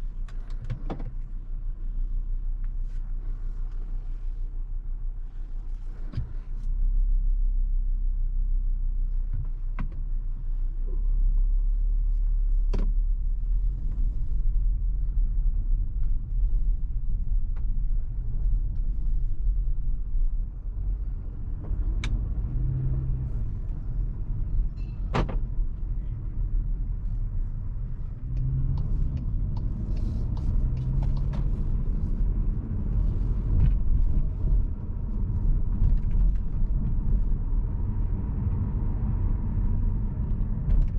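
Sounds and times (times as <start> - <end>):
car engine while driving: 0.0 - 40.9
road rumble: 0.0 - 40.9.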